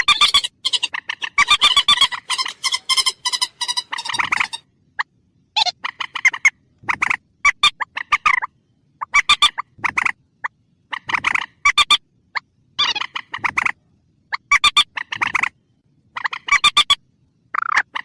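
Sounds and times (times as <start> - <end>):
rail bird harsh repeated calls: 0.0 - 18.0.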